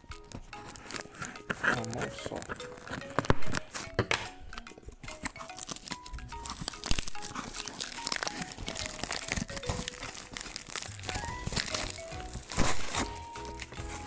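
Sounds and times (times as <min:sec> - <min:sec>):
simple background melody: 0:00.0 - 0:14.0
plastic packaging crinkling and tearing: 0:00.1 - 0:04.0, 0:05.1 - 0:14.0.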